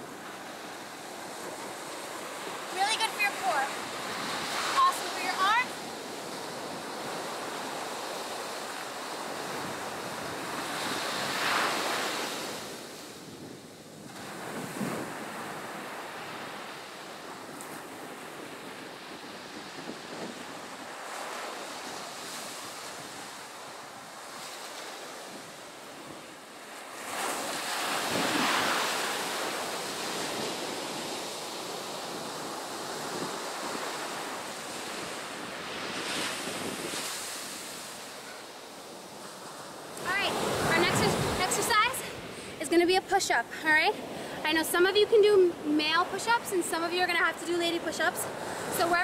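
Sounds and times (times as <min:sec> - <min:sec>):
ocean surf breaking: 0:00.0 - 0:13.3, 0:14.0 - 0:49.0.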